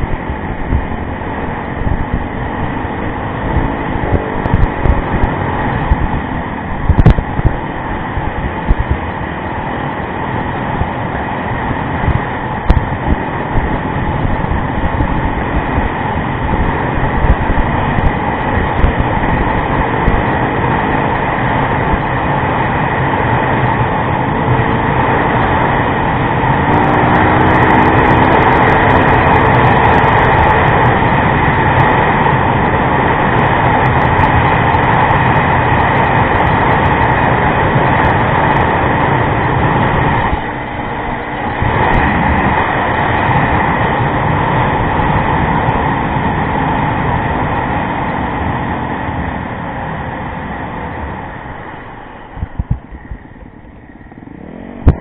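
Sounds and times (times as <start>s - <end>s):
dense rushing noise: 0.0s - 55.0s
motorcycle engine off-road: 0.0s - 55.0s.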